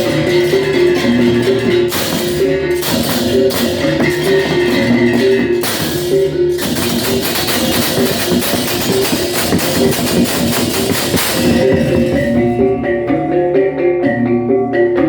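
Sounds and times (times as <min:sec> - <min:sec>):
cymbals clashing: 0:00.0 - 0:12.8.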